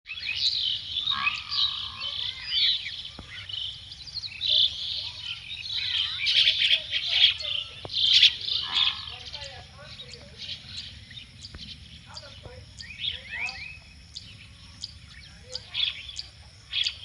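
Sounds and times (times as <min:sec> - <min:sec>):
birds chirping and singing: 0:00.1 - 0:17.0.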